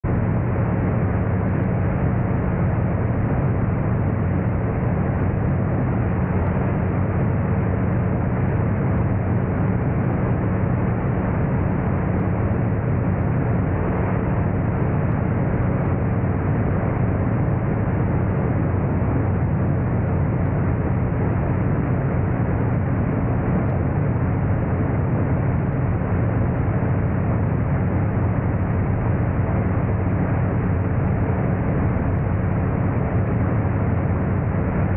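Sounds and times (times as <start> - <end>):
gyroplane engine and propeller drone: 0.1 - 34.9.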